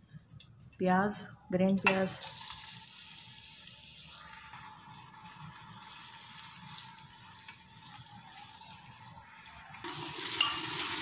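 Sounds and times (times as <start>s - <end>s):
onions sizzling in oil: 1.7s - 11.0s.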